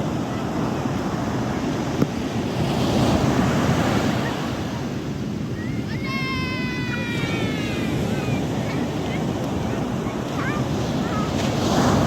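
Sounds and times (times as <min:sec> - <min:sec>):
sea surf washing ashore: 0:00.0 - 0:12.0
wind buffeting microphone: 0:00.0 - 0:12.0.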